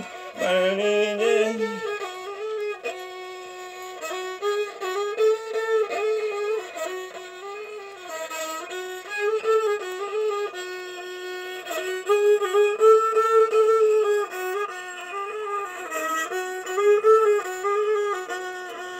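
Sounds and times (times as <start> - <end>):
bowed fiddle melody: 0.0 - 18.9.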